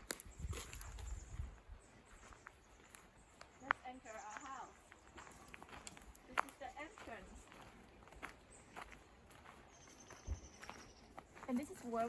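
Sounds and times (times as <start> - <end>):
faint footsteps: 0.0 - 12.0.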